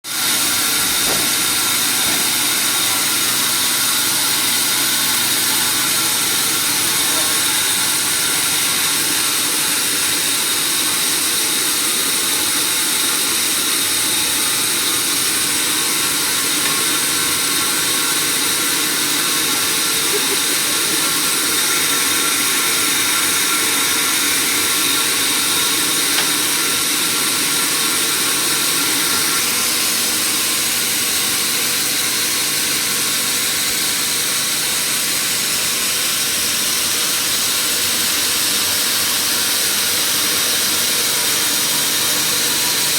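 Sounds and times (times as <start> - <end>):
sawmill machinery hissing: 0.0 - 42.9.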